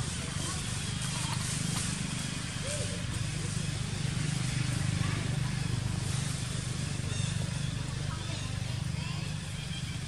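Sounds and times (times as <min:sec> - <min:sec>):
engine running low drone: 0:00.0 - 0:10.0.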